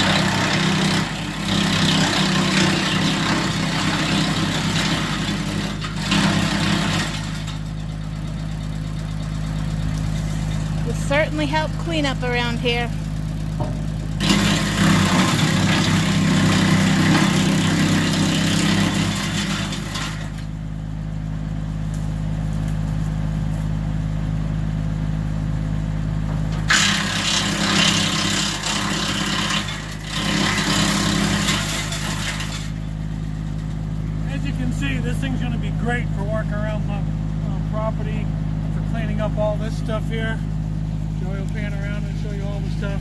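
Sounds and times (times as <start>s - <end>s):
engine drone: 0.0s - 43.0s
wood chipper chipping branches: 0.0s - 43.0s.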